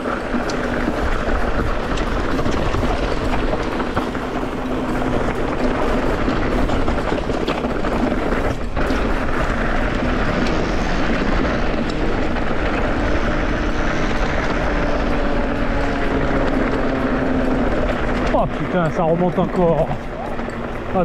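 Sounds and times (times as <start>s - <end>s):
bike tyres rattling over stones: 0.0s - 21.0s
wind buffeting microphone: 0.0s - 21.0s.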